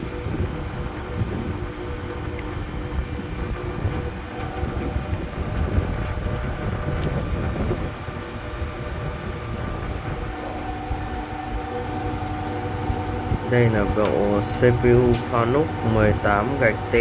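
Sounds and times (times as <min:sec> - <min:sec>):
constant tones: 0:00.0 - 0:17.0
machinery rumble and hum: 0:00.0 - 0:17.0.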